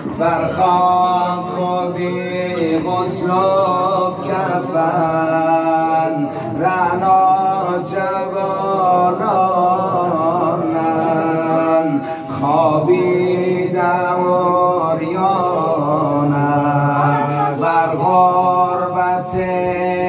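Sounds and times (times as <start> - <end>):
man chanting a lament: 0.0 - 20.0.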